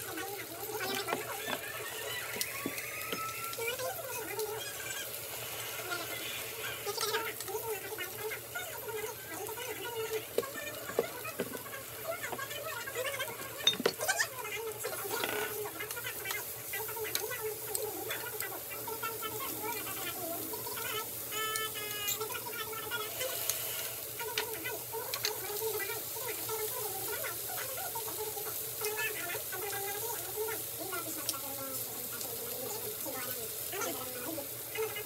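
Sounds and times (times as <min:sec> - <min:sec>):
meat sizzling on grill: 0:00.0 - 0:35.0.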